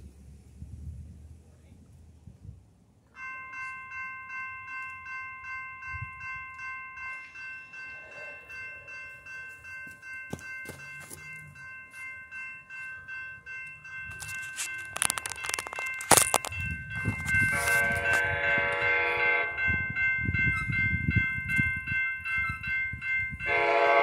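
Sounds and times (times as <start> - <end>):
railroad crossing bell ringing: 3.0 - 24.0.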